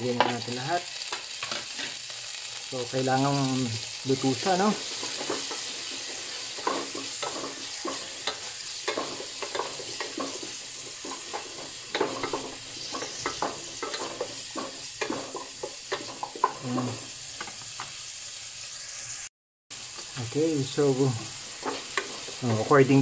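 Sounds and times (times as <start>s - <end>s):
tomatoes sizzling in oil: 0.0s - 23.0s.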